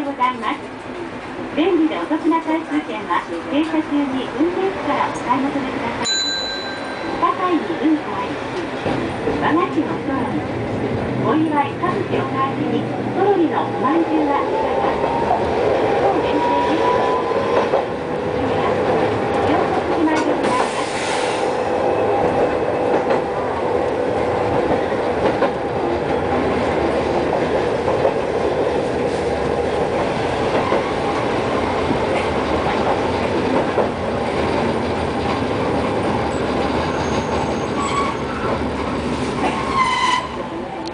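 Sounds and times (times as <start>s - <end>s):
streetcar whine: 0.0s - 40.9s
wheels rumbling on rails: 0.1s - 40.9s
rail clicks: 0.2s - 40.9s.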